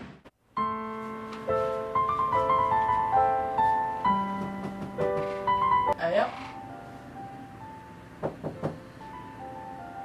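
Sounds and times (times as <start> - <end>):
soft piano music: 0.5 - 10.0.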